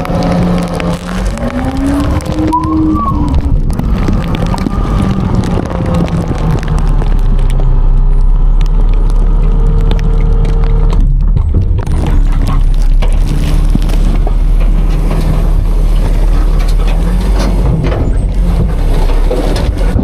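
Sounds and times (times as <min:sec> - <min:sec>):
diesel engine droning hum: 0:00.0 - 0:20.0.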